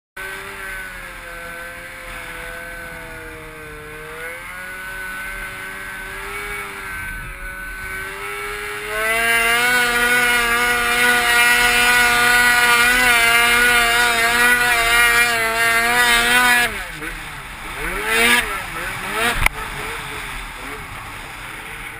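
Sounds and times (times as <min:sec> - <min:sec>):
snowmobile engine climbing: 0:00.2 - 0:21.9.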